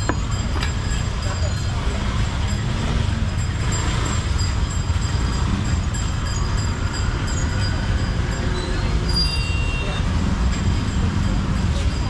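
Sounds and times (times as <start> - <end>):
low rumble of passing traffic: 0.0 - 12.0.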